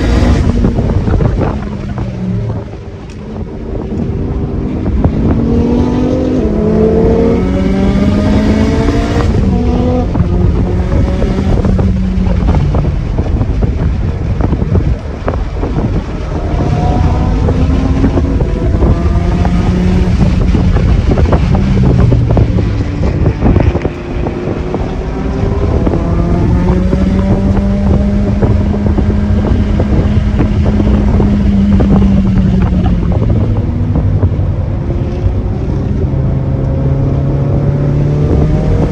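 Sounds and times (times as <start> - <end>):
car engine revving through gears: 0.0 - 38.9
wind buffeting microphone: 0.0 - 38.9.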